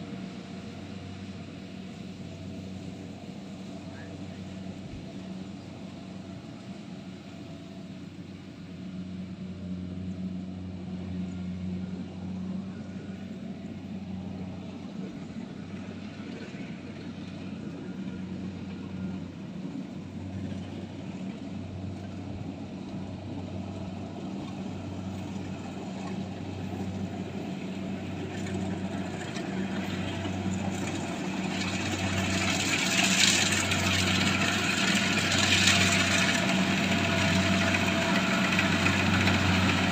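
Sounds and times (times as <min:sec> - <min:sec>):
harvester engine droning: 0:00.0 - 0:39.9.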